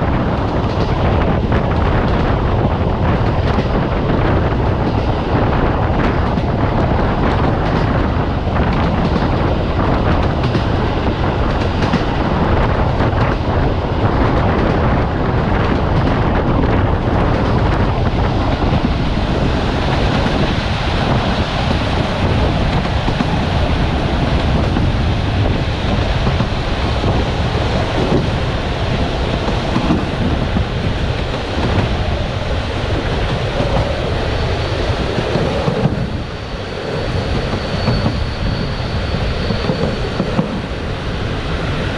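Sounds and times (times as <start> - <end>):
train wheel and rail noise: 0.0 - 41.9
wind rushing past train window: 0.0 - 41.9.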